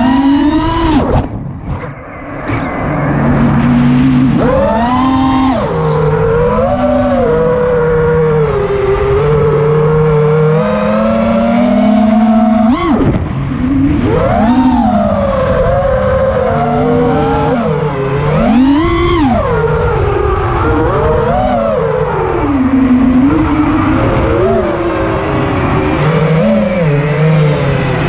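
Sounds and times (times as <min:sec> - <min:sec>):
quadcopter motors whining: 0:00.0 - 0:28.0.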